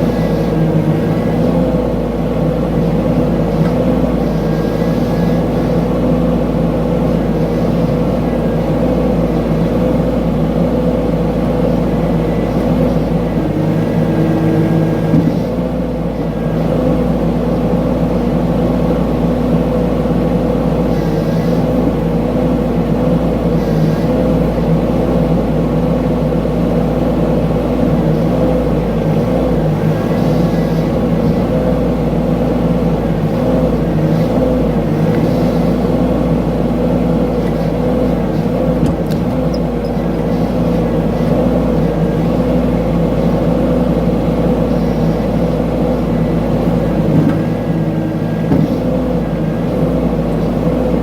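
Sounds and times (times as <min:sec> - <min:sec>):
excavator engine running: 0:00.0 - 0:51.0.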